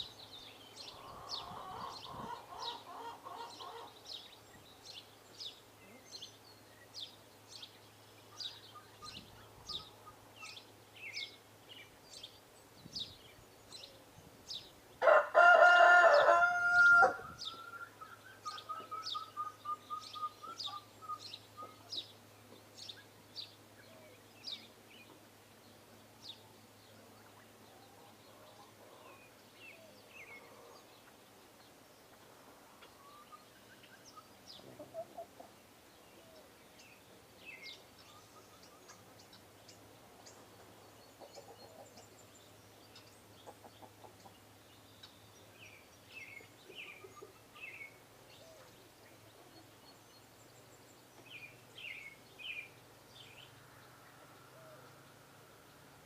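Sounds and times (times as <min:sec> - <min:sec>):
small birds chirping: 0:00.0 - 0:15.2, 0:15.8 - 0:56.0.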